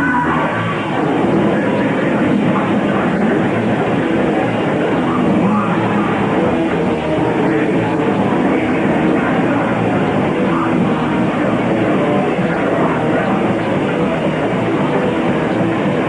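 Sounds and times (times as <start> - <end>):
punk rock band playing live: 0.0 - 16.0.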